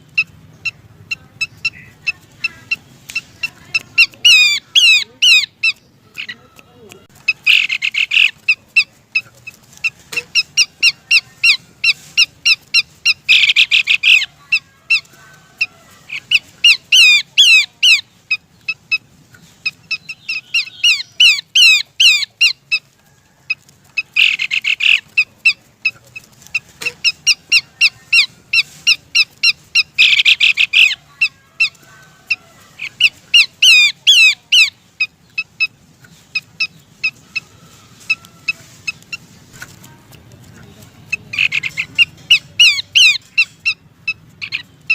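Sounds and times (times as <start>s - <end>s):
babbler bird calling: 0.0s - 22.8s, 24.0s - 39.3s, 41.0s - 44.9s.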